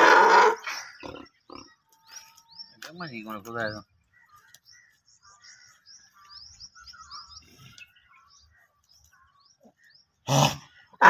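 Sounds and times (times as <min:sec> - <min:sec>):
birds chirping: 0:00.0 - 0:11.0
soft low bird calls: 0:00.1 - 0:11.0.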